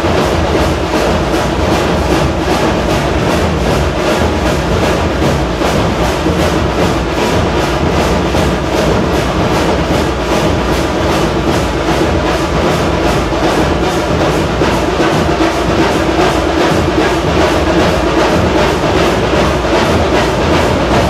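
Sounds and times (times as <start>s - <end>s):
drums beating: 0.0s - 21.0s.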